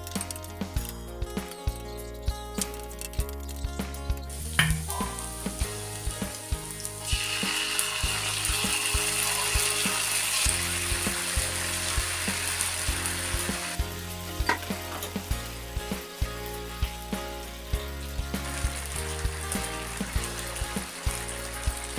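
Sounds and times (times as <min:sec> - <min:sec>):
food sizzling in oil: 0:04.2 - 0:21.9.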